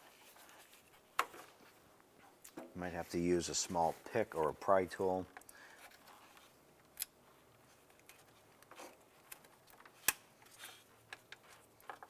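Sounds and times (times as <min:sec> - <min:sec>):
gloved hands rustling: 0:00.0 - 0:12.0.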